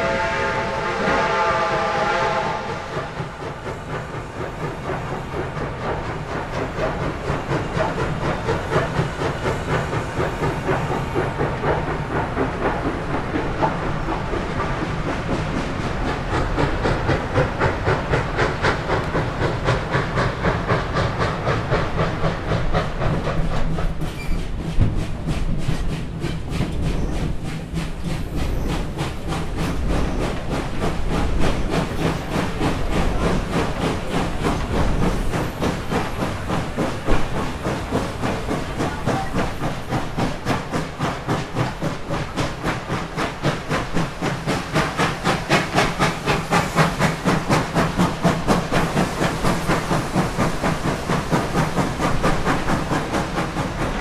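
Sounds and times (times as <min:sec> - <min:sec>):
steam hiss and rumble: 0:00.0 - 0:54.0
steam locomotive exhaust chuffs: 0:00.0 - 0:54.0.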